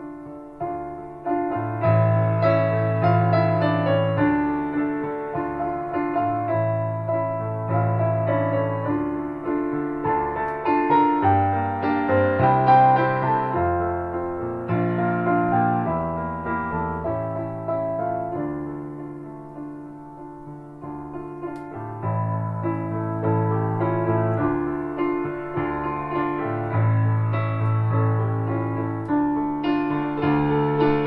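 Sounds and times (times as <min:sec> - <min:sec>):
soft piano music: 0:00.0 - 0:31.0.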